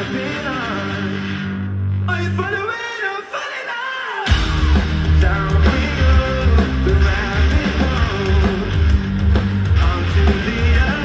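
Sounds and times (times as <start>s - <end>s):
person singing: 0.0s - 1.4s, 2.1s - 8.9s, 9.8s - 11.0s
live rock band playing: 0.0s - 2.6s, 4.3s - 11.0s.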